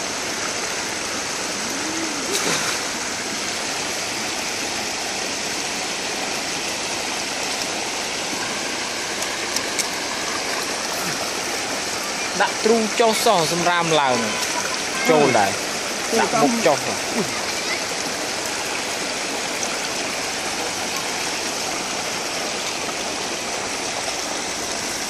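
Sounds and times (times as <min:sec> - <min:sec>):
stream water rushing over log: 0:00.0 - 0:25.0.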